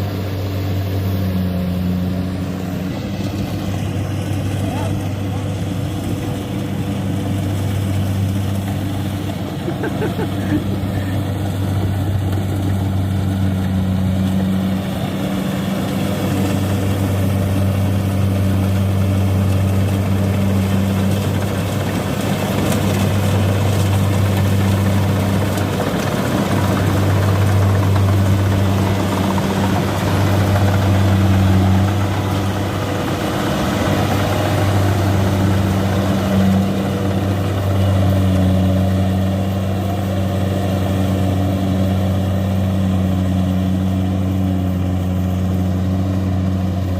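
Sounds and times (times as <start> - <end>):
combine harvester diesel engine: 0.0 - 46.9.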